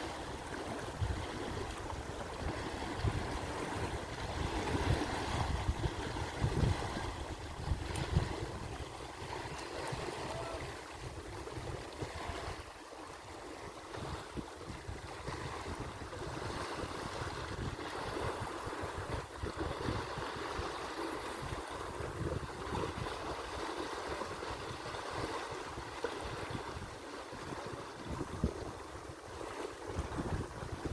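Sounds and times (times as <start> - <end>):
wind buffeting microphone: 0.0 - 12.8, 13.4 - 30.9
lake waves: 0.0 - 30.9.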